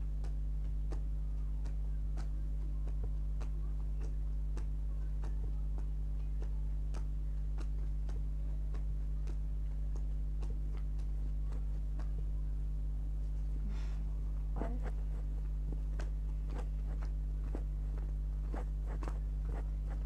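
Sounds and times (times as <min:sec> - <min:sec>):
constant low hum: 0:00.0 - 0:20.0.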